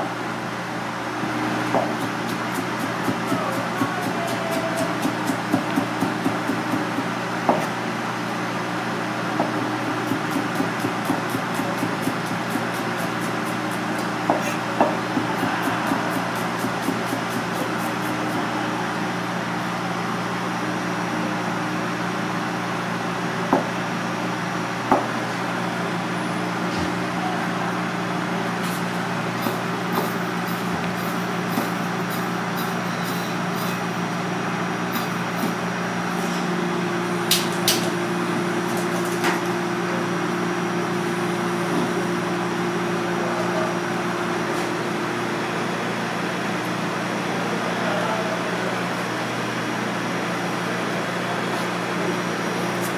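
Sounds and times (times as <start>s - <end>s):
kitchen machinery humming: 0.0s - 52.9s.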